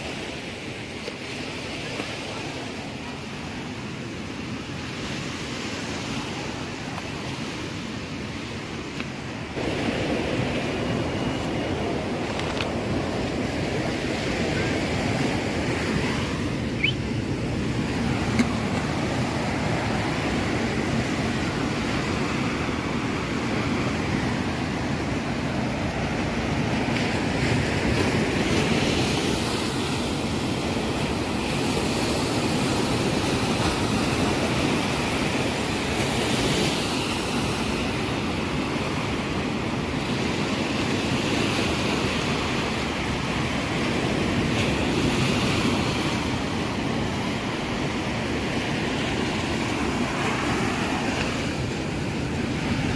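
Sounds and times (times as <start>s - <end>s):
sea surf washing on beach: 0.0s - 52.9s.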